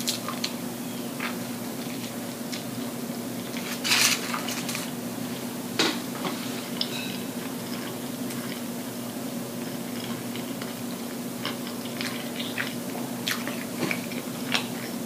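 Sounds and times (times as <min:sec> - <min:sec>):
woman chewing food: 0:00.0 - 0:05.6, 0:06.4 - 0:15.0.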